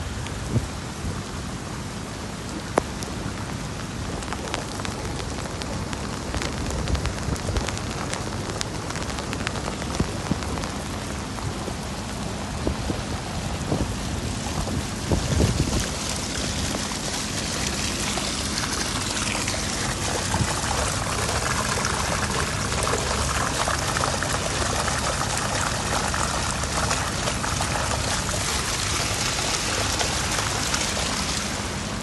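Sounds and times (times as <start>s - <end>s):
heavy rain hissing: 0.1s - 32.0s
hail pellets ticking: 2.7s - 13.1s, 14.3s - 31.6s.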